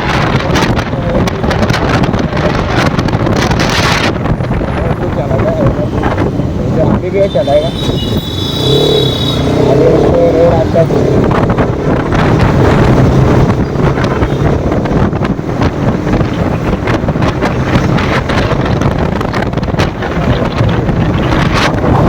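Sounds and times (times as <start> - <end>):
motorcycle engine: 0.0 - 22.0
road noise: 0.0 - 22.0
wind buffeting microphone: 0.0 - 22.0.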